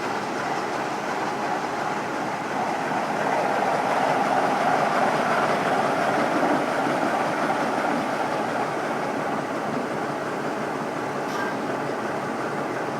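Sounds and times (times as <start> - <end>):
train rushing on rails: 0.0 - 12.9.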